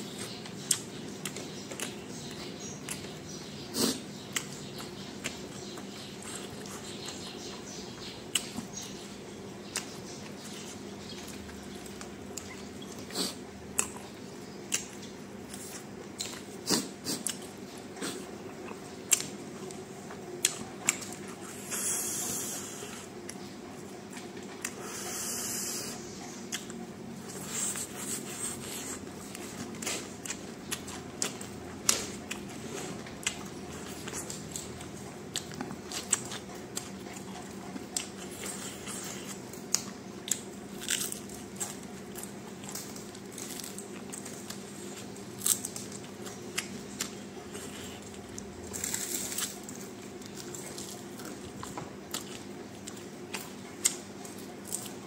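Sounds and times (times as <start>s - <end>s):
chewing and biting food: 0.0s - 55.0s
faint steady hum: 0.0s - 55.0s.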